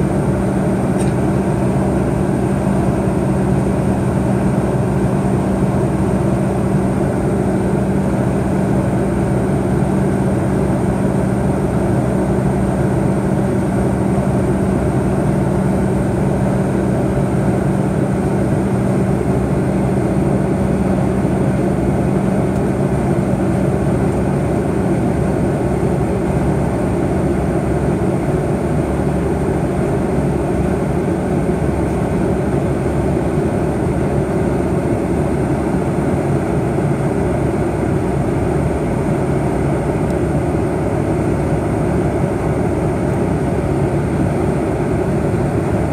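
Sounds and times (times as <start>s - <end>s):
jet engines humming low: 0.0s - 45.9s.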